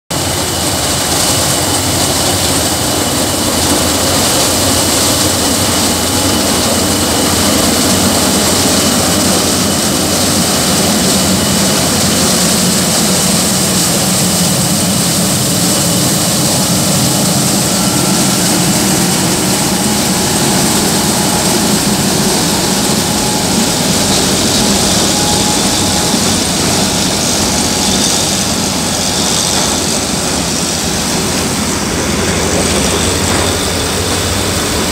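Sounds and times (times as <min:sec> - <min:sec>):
combine harvester running: 0:00.1 - 0:34.9
low engine drone: 0:00.1 - 0:34.9
loud even high hiss: 0:00.2 - 0:34.9.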